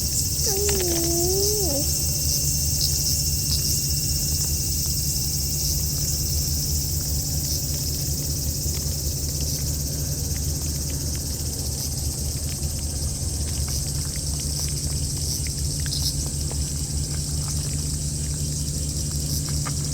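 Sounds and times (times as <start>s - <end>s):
chorus of insects: 0.0s - 19.9s
constant low rumble: 0.0s - 19.9s.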